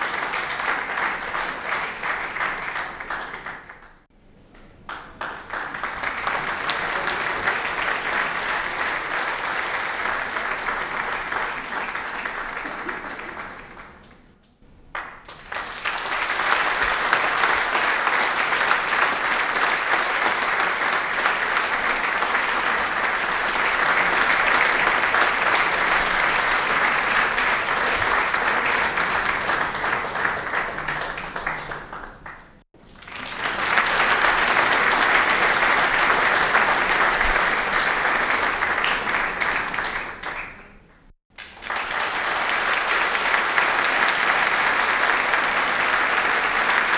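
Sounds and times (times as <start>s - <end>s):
audience applauding: 0.0s - 4.1s, 4.9s - 14.3s, 14.9s - 46.9s.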